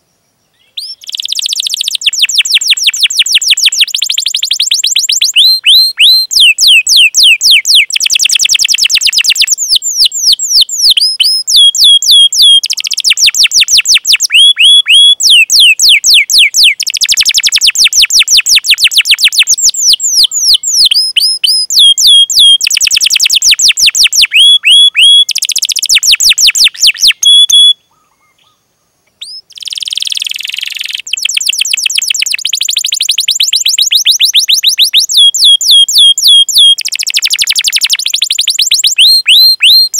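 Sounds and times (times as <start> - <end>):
canary singing chirps and trills: 0.6 - 28.6, 29.2 - 39.9.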